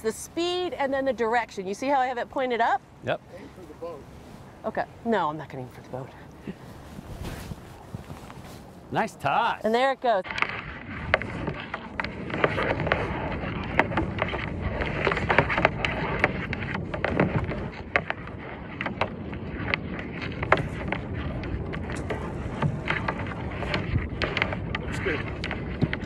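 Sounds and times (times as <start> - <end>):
water at shoreline: 0.0 - 26.0
wind: 0.0 - 26.0.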